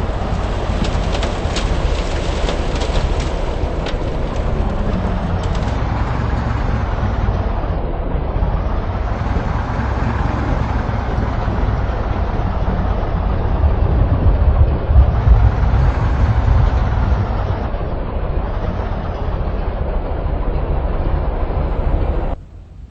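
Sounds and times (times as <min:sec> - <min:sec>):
moving vehicle rumble: 0:00.0 - 0:22.9.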